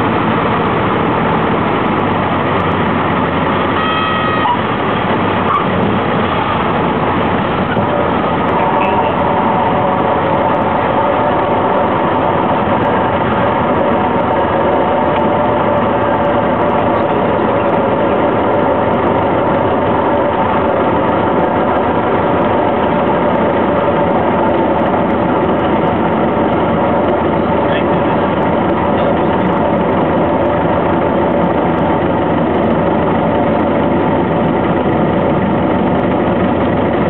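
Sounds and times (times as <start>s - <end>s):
light aircraft propeller drone: 0.0s - 37.0s.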